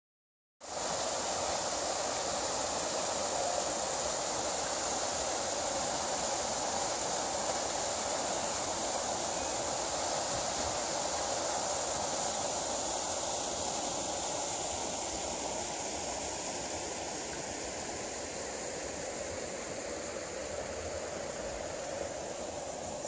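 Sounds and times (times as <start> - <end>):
water rushing over weir: 0.6 - 23.0.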